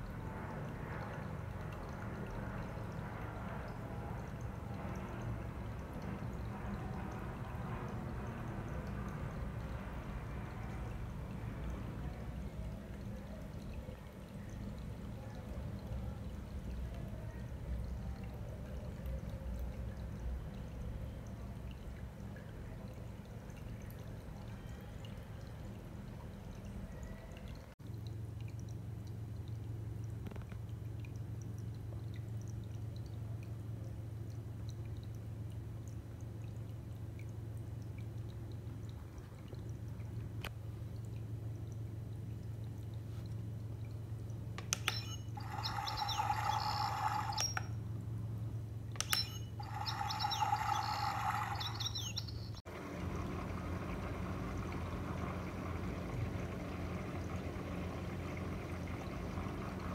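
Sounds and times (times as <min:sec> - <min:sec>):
aquarium pump humming: 0:00.0 - 0:59.9
water trickling and bubbling: 0:00.0 - 0:59.9.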